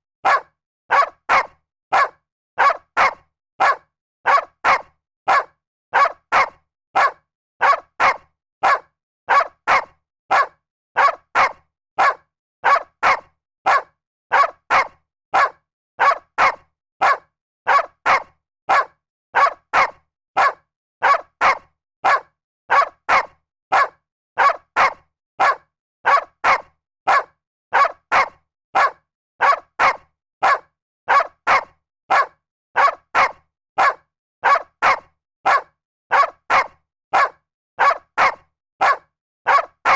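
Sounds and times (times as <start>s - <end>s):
dog barking: 0.2s - 39.9s.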